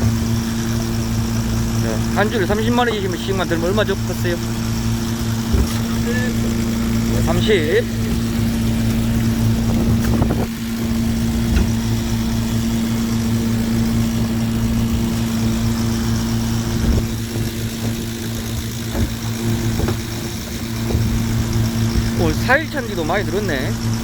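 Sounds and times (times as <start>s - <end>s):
boat engine running steadily: 0.0s - 24.0s.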